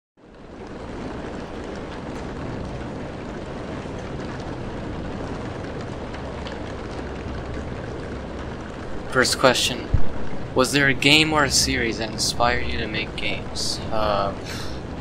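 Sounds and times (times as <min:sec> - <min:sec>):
falling rain hiss: 0:00.2 - 0:15.0
rain drop ticks: 0:00.2 - 0:15.0
low rumble: 0:01.0 - 0:15.0.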